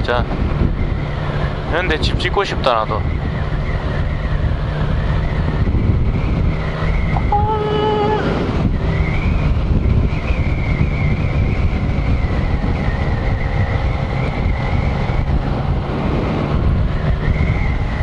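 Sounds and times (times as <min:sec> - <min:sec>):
motorcycle engine cruising: 0:00.0 - 0:18.0
wind rush on microphone: 0:00.0 - 0:18.0.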